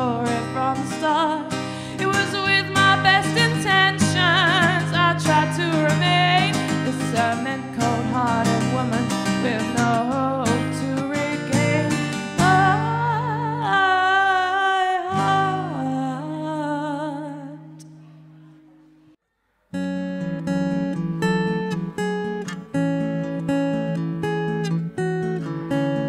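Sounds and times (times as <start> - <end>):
strummed acoustic guitar: 0.0 - 16.6, 19.7 - 26.0.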